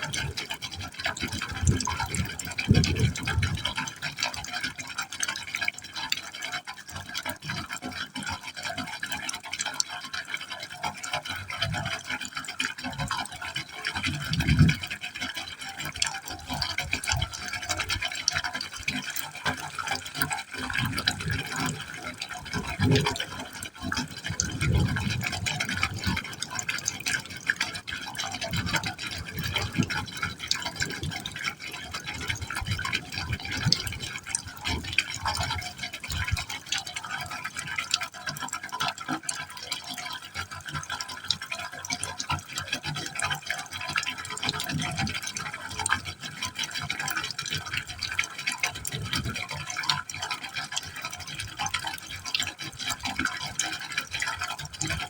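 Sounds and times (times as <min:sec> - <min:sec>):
water splashing into a pipe: 0:00.0 - 0:55.0.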